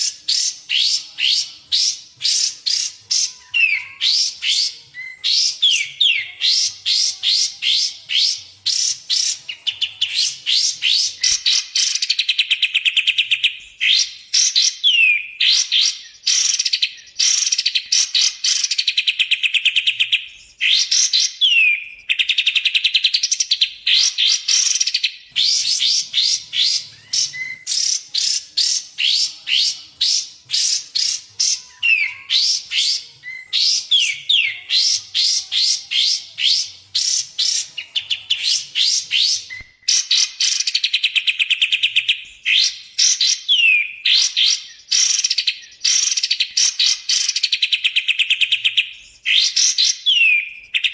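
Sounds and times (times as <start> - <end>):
high upswept bird chirps: 0.0 - 50.9.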